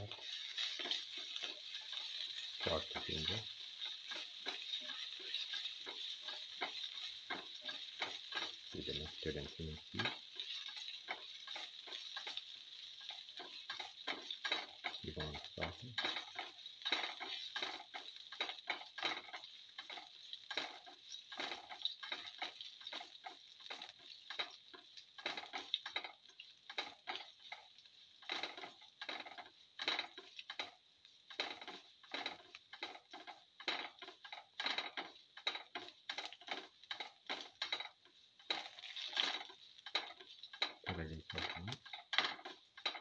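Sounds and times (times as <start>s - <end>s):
spatula scraping and tapping pan: 0.0s - 43.0s.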